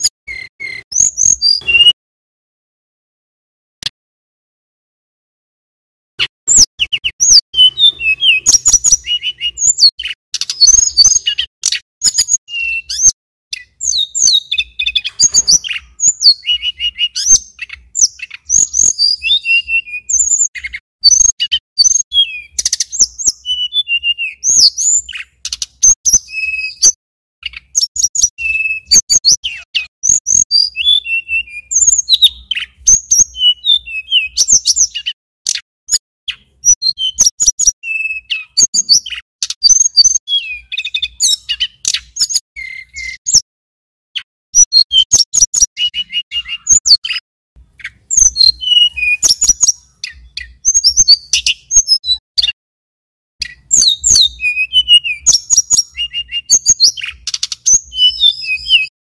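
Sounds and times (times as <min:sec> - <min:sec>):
songbird chirping and whistling: 0:00.0 - 0:02.0, 0:06.2 - 0:43.4, 0:44.2 - 0:52.6, 0:53.4 - 0:58.9.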